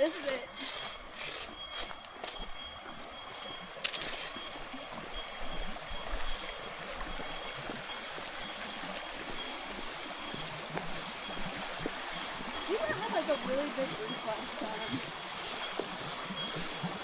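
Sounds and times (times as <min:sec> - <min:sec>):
faint high steady tone: 0:00.0 - 0:17.0
waterfall running water: 0:02.9 - 0:17.0.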